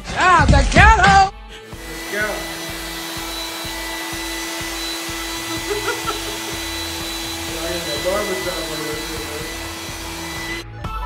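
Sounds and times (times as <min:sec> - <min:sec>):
air pump motor whine: 0:01.7 - 0:10.6.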